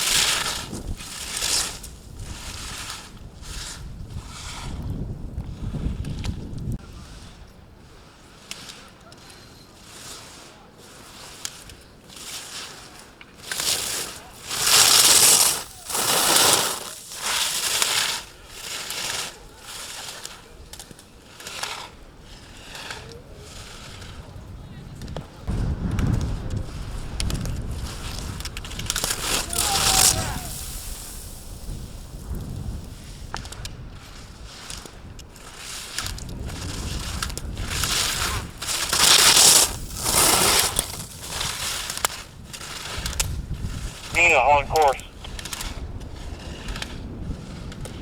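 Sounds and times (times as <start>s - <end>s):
skis scraping on hard snow: 0.0s - 4.9s, 5.5s - 24.2s, 26.2s - 48.0s.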